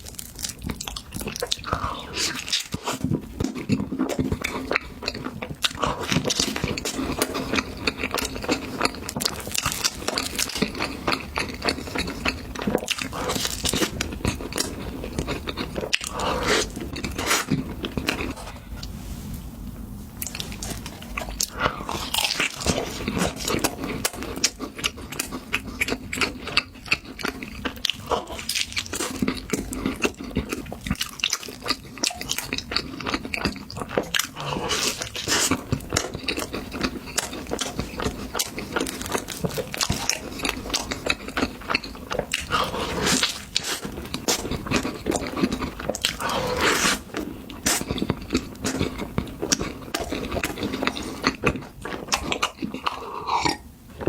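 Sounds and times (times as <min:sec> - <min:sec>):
chewing soft pastry: 0:00.0 - 0:54.0.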